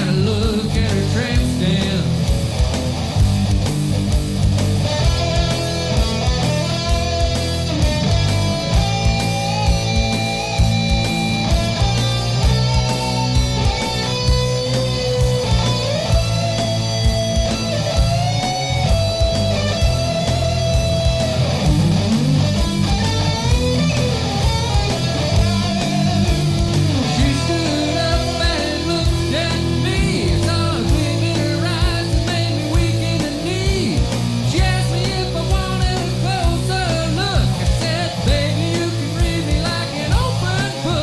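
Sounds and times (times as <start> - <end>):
rock music: 0.0 - 41.0.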